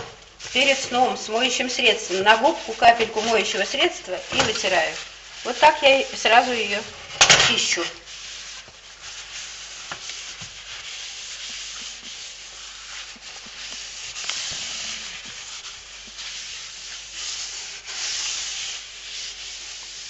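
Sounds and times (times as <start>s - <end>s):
paper towel rubbing stovetop: 0.0s - 20.0s.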